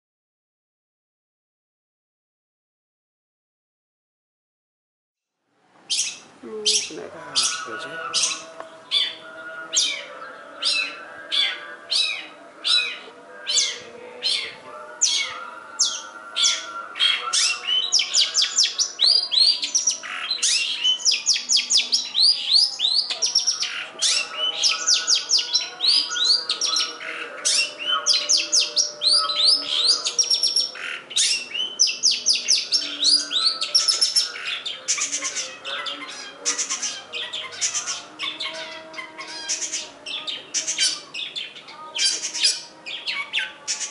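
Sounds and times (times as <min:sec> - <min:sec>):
bird singing whistles and trills: 0:05.9 - 0:43.9.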